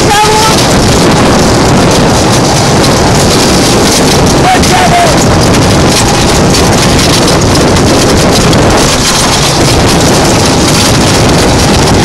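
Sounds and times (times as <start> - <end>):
go-kart engine running: 0.0 - 12.0
wind noise on microphone: 0.0 - 12.0.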